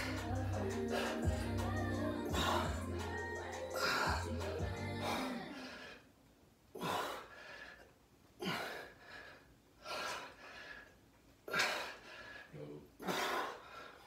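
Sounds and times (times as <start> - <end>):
man breathing hard: 0.0 - 6.1, 6.7 - 14.0.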